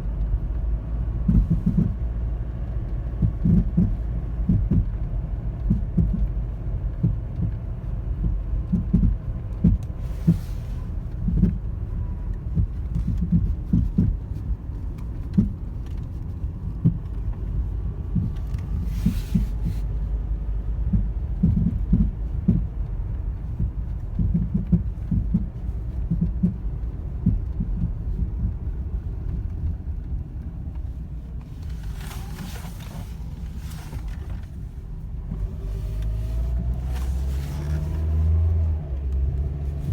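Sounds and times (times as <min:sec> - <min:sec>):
car engine thumping and popping: 0:00.0 - 0:39.9
low engine rumble: 0:00.0 - 0:39.9.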